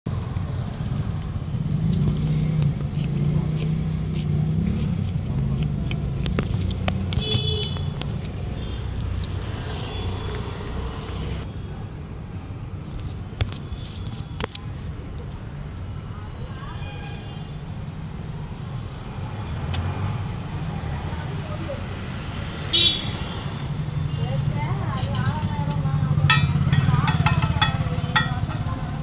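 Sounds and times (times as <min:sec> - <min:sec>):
road traffic rumble: 0:00.1 - 0:29.0.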